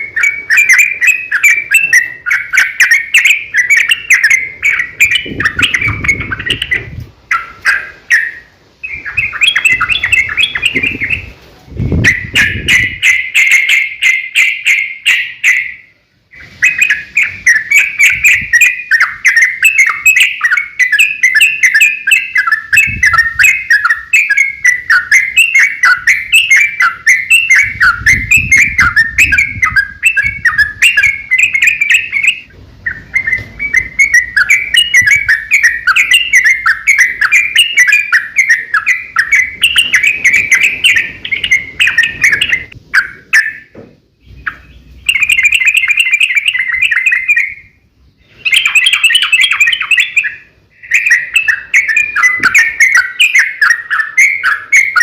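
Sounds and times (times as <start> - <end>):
bird singing chattering notes: 0.0 - 55.0.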